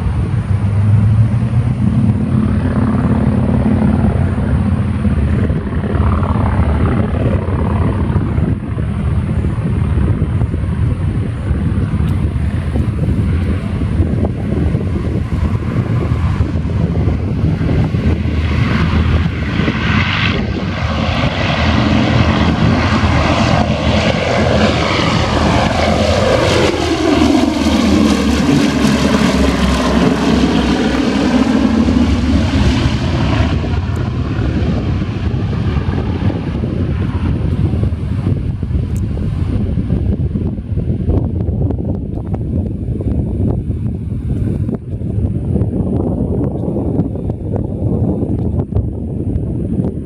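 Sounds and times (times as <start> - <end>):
propeller plane engines passing: 0.0 - 50.0
wind rumble on microphone: 0.0 - 50.0.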